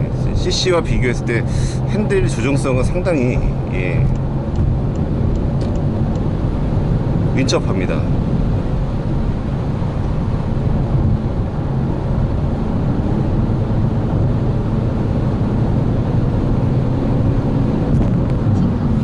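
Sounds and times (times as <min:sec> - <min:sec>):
faint engine drone: 0:00.0 - 0:19.0
road and tyre rumble: 0:00.0 - 0:19.0.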